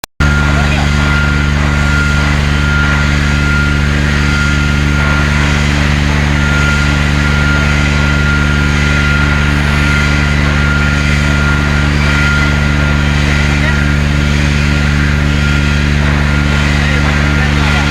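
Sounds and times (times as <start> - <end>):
welding machine humming: 0.2 - 17.9.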